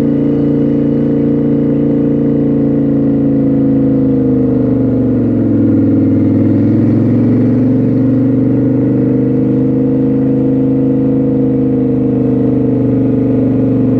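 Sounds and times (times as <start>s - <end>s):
motorbike engine running: 0.0s - 13.9s.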